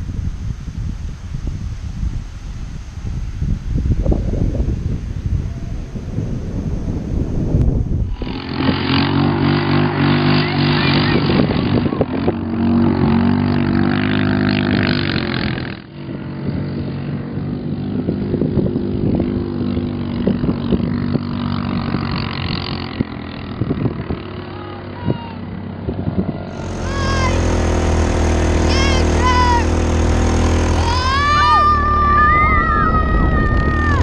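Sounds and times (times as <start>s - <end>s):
quad bike engine running: 3.8s - 34.0s.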